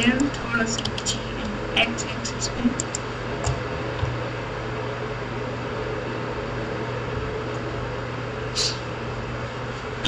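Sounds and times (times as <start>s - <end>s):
room noise hum and hiss: 0.0s - 10.0s.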